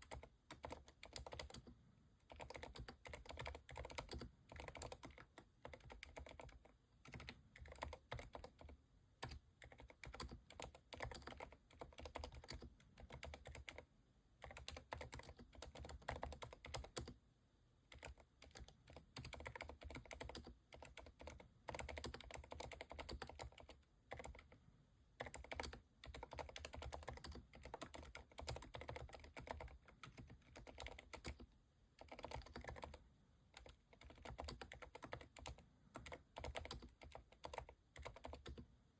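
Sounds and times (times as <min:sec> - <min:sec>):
soft keyboard keystrokes: 0:00.0 - 0:17.2, 0:17.9 - 0:24.6, 0:25.2 - 0:38.7.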